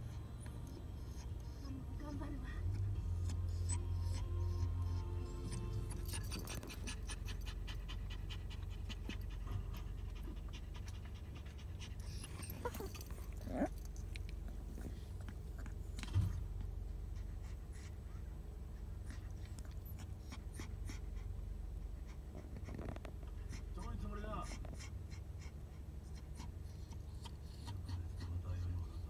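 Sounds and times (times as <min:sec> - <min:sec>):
dog panting rapidly: 0:00.0 - 0:29.0.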